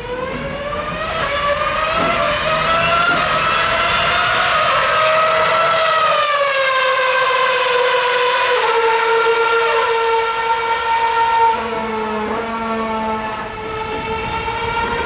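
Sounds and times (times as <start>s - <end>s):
racing car engine high revs: 0.0s - 15.0s.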